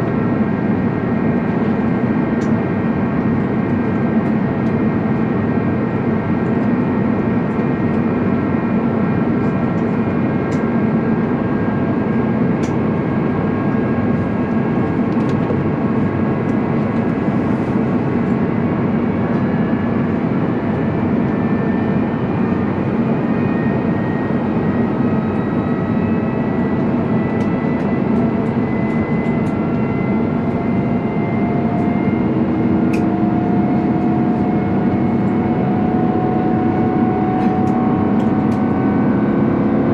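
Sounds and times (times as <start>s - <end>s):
jet engines whining in cabin: 0.0s - 39.9s.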